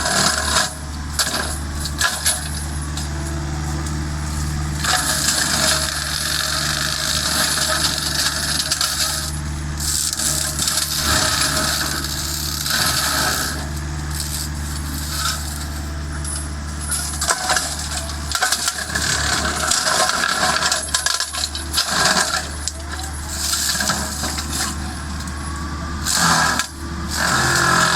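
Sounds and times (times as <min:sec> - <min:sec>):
excavator engine humming: 0:00.0 - 0:27.9
flail mulcher shredding brush: 0:00.0 - 0:27.9.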